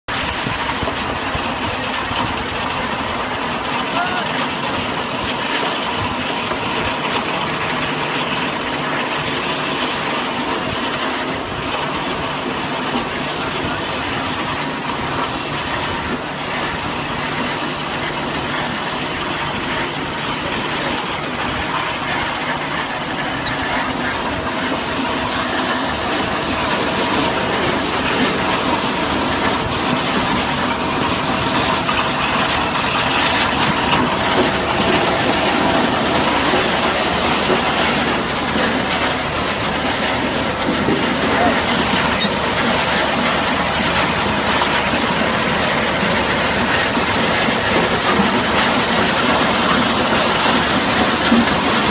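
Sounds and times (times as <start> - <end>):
tractor engine: 0.0 - 51.9
harvester conveyor clatter: 0.1 - 51.9.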